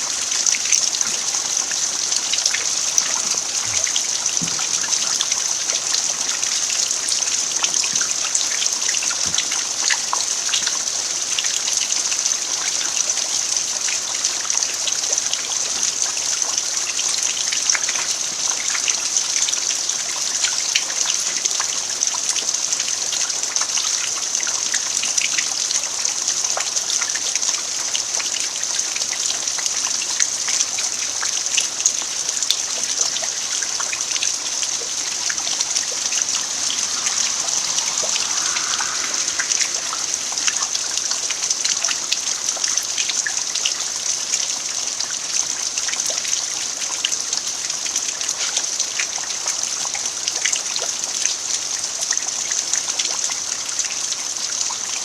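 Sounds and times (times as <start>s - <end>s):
rain falling on earth: 0.0s - 55.0s.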